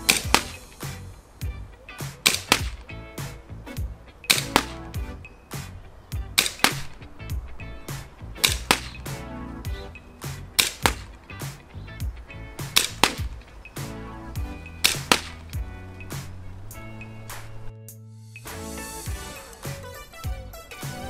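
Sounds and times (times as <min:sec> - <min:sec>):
music with steady drum beat: 0:00.0 - 0:17.7, 0:18.3 - 0:21.0.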